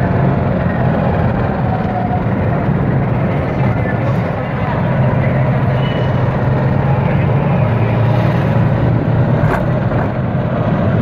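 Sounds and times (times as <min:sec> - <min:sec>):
rolling and wind noise: 0:00.0 - 0:11.0.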